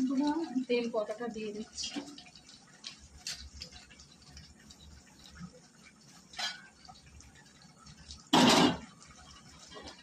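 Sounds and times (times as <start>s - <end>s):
curry bubbling in a pot: 0.0s - 10.0s.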